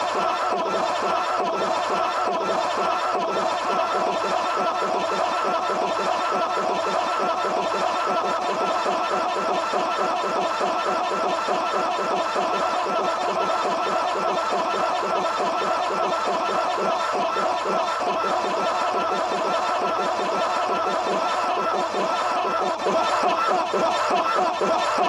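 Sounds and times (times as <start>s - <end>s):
chattering laugh-like voices: 0.0s - 25.0s.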